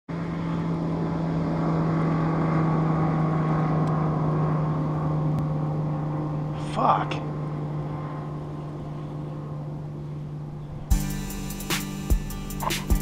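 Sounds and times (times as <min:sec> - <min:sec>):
boat motor humming: 0:00.1 - 0:13.0.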